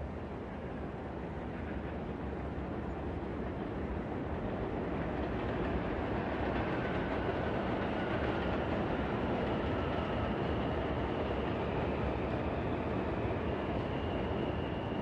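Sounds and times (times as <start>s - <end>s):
city rumble and hiss: 0.0s - 15.0s.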